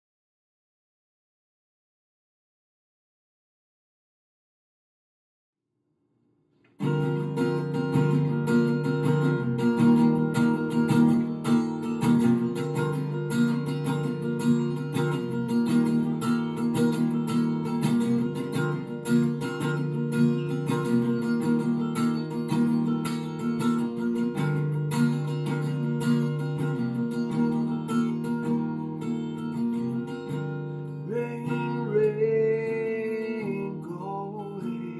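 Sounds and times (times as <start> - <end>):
acoustic guitar strummed chords: 6.6 - 34.9.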